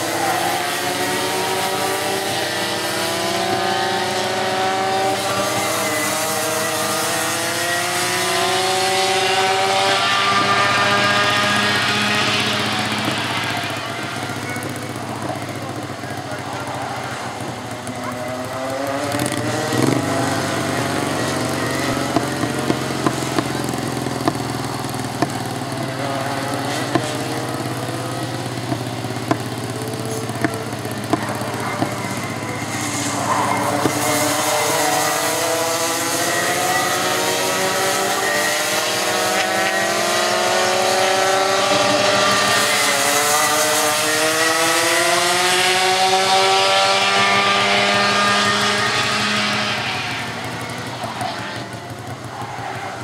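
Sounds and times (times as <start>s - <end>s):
kart engines revving: 0.0s - 53.0s.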